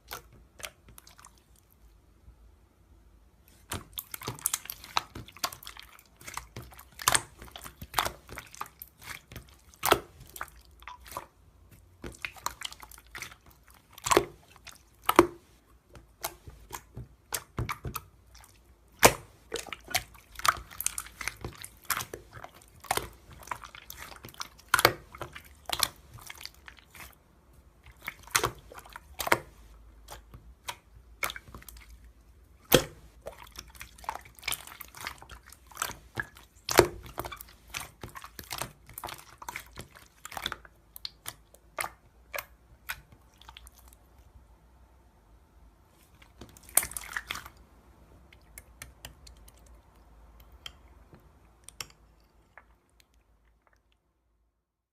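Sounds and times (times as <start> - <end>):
wet clicks and squishes: 0.0 - 1.8, 3.5 - 44.4, 46.0 - 54.2.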